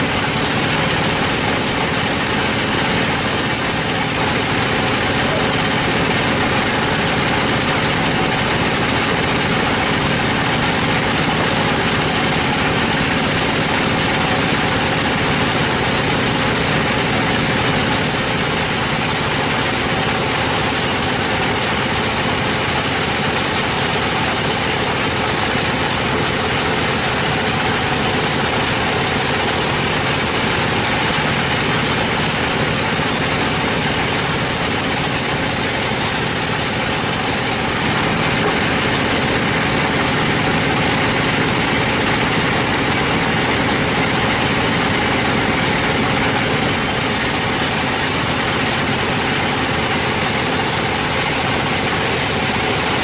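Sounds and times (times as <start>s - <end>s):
sawmill machinery drone: 0.0s - 53.0s.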